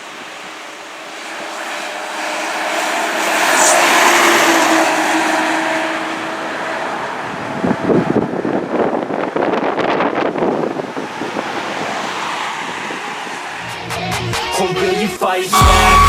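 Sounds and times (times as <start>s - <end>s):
wind buffeting microphone: 0.0s - 14.8s
fire engine driving past: 0.0s - 16.0s.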